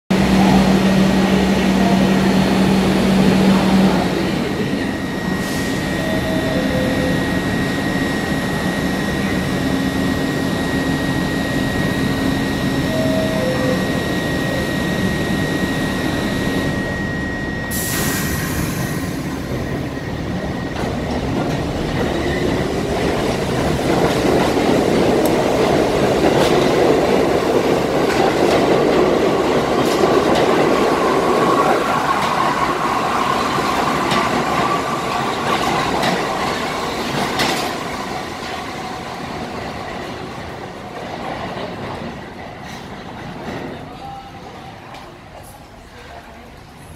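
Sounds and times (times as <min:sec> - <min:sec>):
subway train whine: 0:00.1 - 0:46.9
train running noise: 0:00.1 - 0:46.9.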